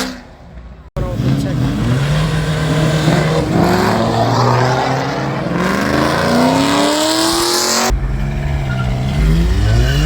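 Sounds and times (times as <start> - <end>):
car engine accelerating: 1.0 - 10.0.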